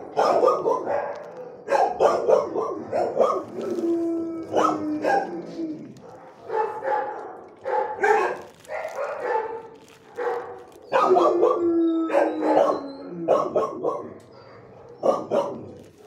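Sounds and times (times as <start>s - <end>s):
dog howling: 0.0s - 15.9s
dogs barking: 0.0s - 16.0s.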